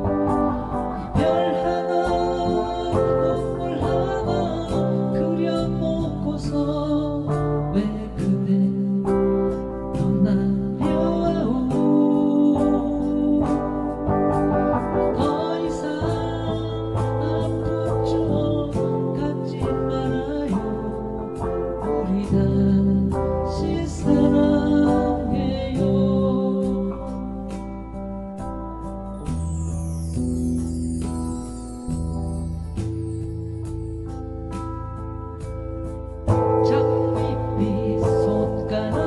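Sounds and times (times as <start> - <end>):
song with guitar and singing: 0.0 - 39.0.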